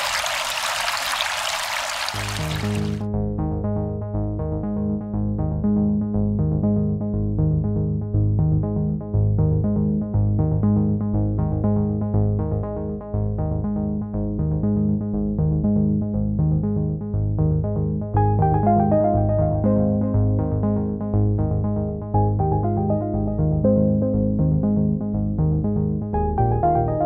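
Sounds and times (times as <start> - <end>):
synthesizer and keyboard music: 2.0 - 27.0.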